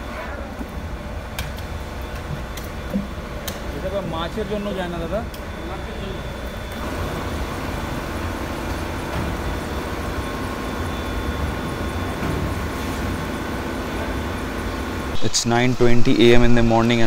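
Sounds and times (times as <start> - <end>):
machinery rumble and hum: 0.0 - 17.0.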